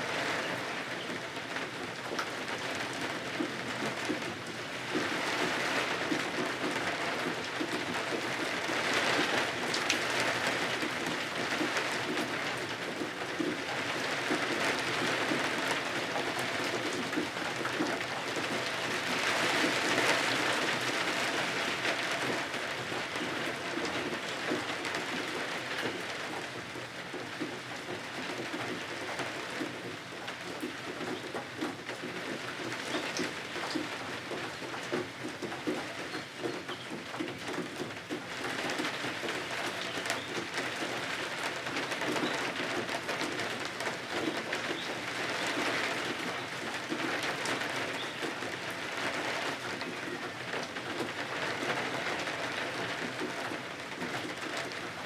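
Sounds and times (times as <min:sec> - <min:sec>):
rain on windows: 0:00.0 - 0:55.0.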